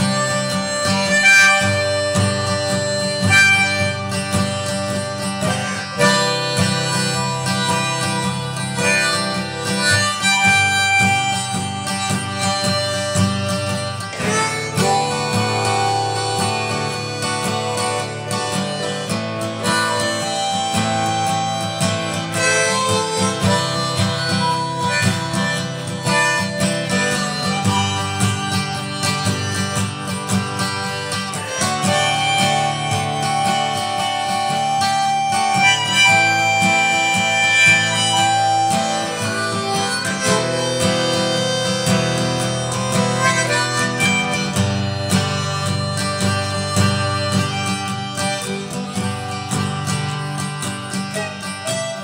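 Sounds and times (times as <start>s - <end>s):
acoustic guitar chords: 0.0s - 52.0s
harmonica melody: 0.0s - 52.0s.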